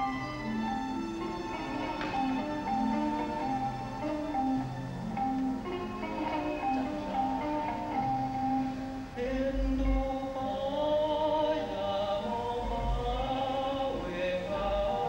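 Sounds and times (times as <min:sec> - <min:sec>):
slow sung melody: 0:00.0 - 0:15.0.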